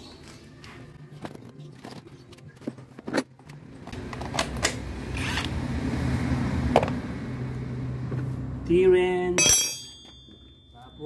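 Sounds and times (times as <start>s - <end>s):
vehicle engine humming: 0.2s - 10.7s.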